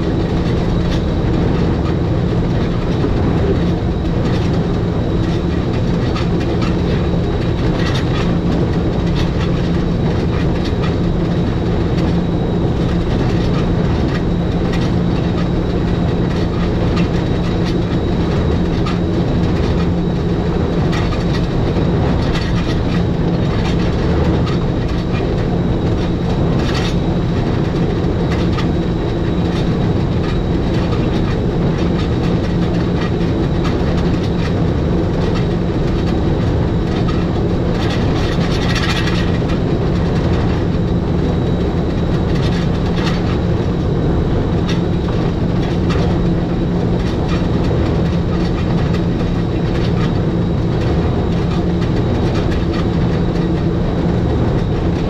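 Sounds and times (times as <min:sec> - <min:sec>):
electric train low hum: 0:00.0 - 0:55.0.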